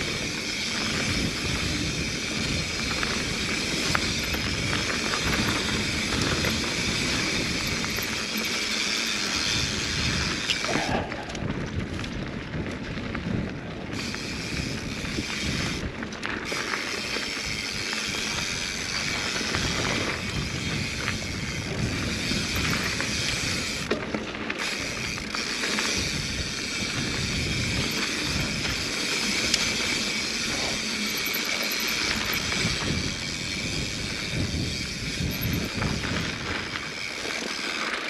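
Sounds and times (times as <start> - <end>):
wind on microphone: 0.0 - 8.3, 9.4 - 24.0, 24.9 - 31.2, 31.8 - 37.2
bike rattling over bumps: 0.0 - 38.0
bike tyres on dirt: 0.0 - 38.0.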